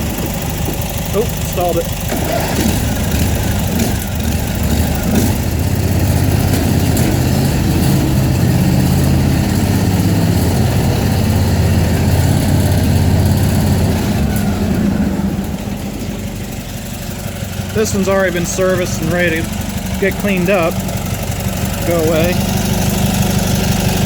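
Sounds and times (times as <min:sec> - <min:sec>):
lawn tractor engine running: 0:00.0 - 0:24.0.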